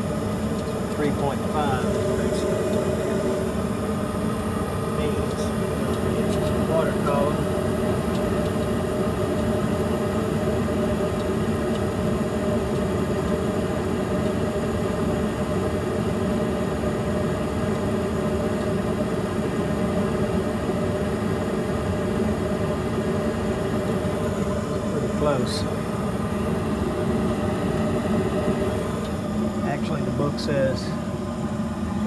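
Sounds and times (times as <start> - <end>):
gas furnace hum: 0.0 - 32.0.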